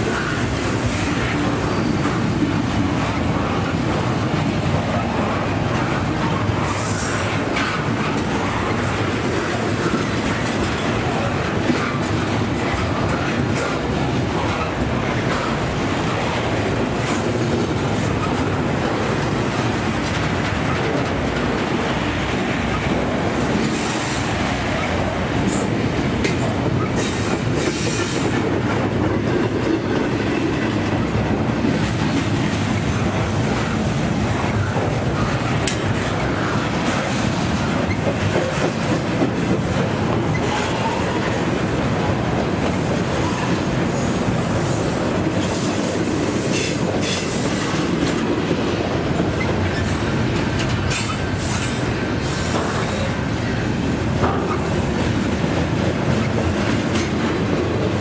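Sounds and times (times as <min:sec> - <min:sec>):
wheels clacking over rail joints: 0:00.0 - 0:53.1, 0:54.1 - 0:58.0
train wheels rumbling on rail: 0:00.0 - 0:58.0.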